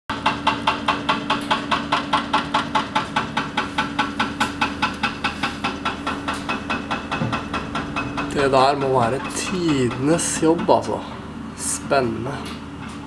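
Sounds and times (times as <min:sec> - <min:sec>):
hydraulic breaker hammering: 0:00.1 - 0:11.8.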